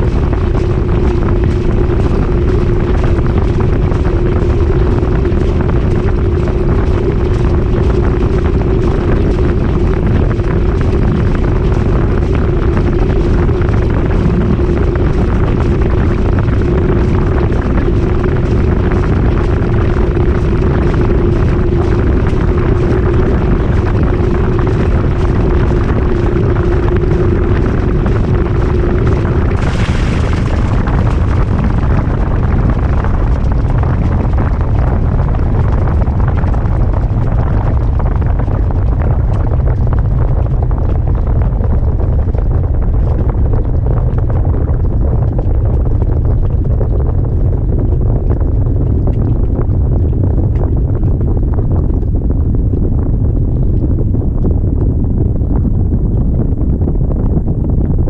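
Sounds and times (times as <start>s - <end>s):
motor hum: 0.0s - 47.6s
washing machine spin rumble: 0.0s - 58.0s.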